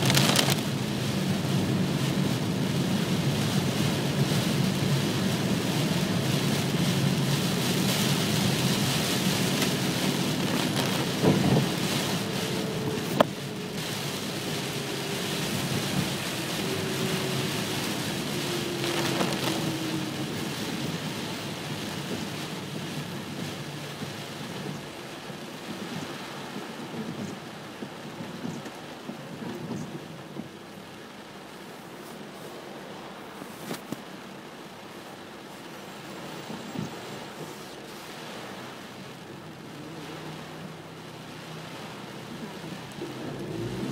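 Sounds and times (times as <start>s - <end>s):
heavy rain on car roof: 0.0s - 43.9s.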